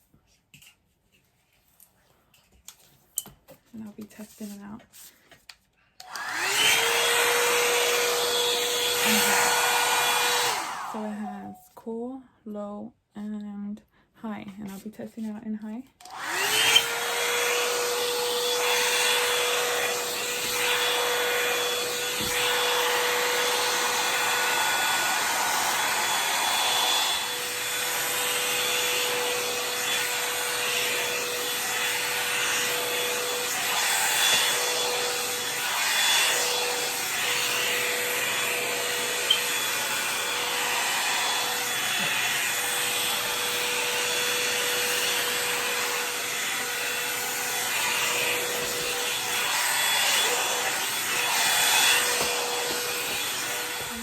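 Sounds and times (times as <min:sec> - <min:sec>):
hair dryer brush motor whining: 0:06.0 - 0:11.6, 0:16.0 - 0:54.0.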